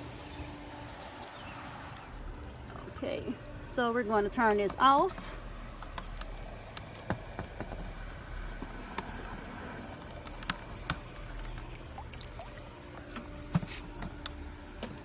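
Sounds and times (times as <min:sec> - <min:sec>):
water trickling and lapping: 0:00.0 - 0:14.8.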